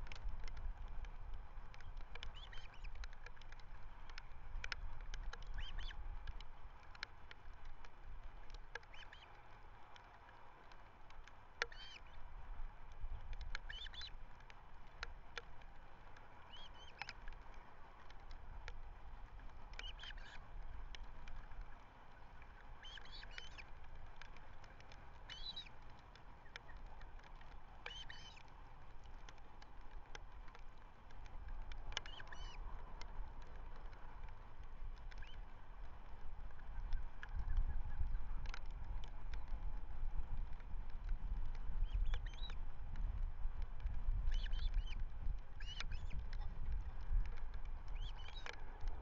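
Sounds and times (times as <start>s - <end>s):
wind rumble on microphone: 0.0s - 49.0s.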